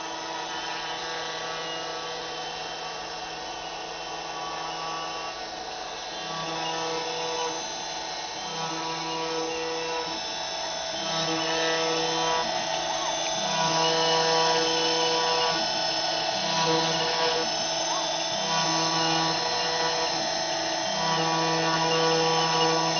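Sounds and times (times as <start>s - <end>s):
cnc machine whining: 0.0s - 22.9s.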